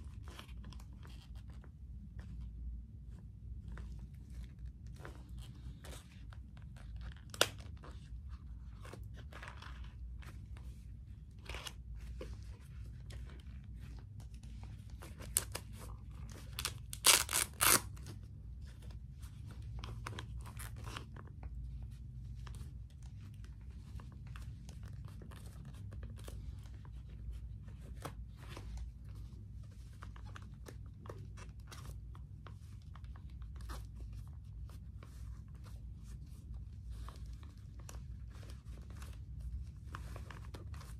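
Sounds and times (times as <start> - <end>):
leather gloves creaking and rustling: 0.0 - 40.9.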